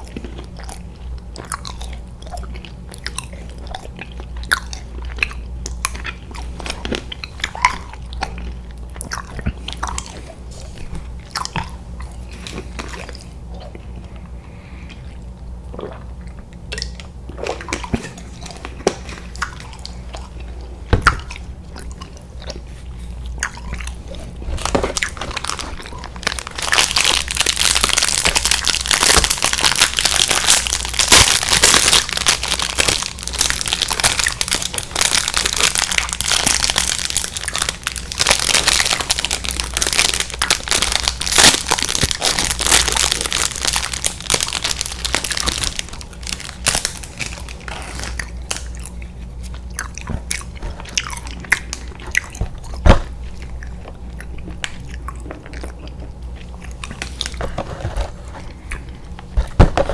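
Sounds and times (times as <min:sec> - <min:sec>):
crinkling and crunching: 0:00.0 - 0:59.9
wet chewing: 0:00.0 - 0:59.9.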